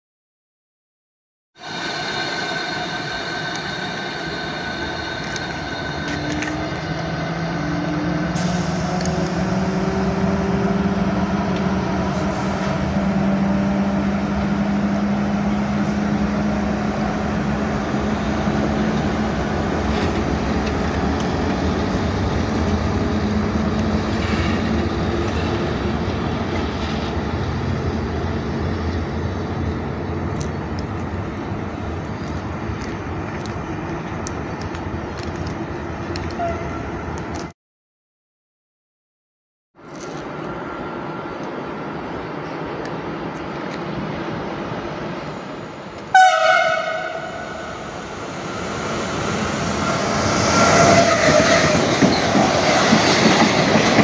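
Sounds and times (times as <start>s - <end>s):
electric locomotive humming: 1.6s - 37.5s, 39.9s - 54.0s.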